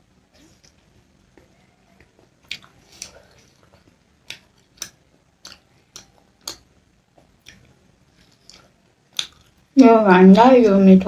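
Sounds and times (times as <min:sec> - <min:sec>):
chewing crunches and mouth clicks: 0:00.3 - 0:09.8.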